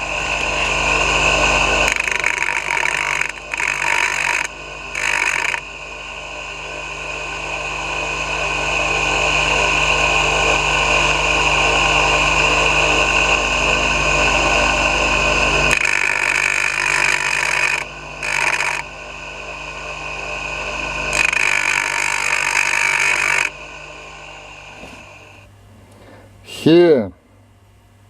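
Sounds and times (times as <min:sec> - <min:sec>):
electric machine high whine: 0:00.0 - 0:25.6.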